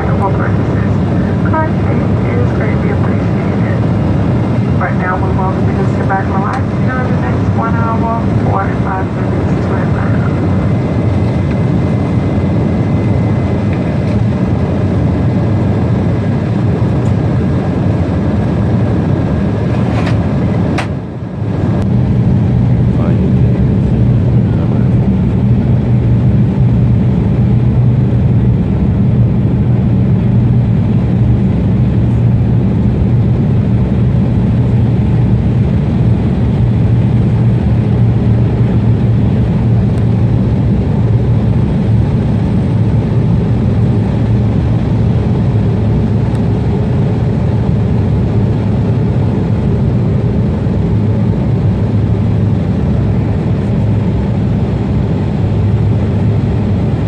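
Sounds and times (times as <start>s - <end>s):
jet engine rumble: 0.0s - 57.0s.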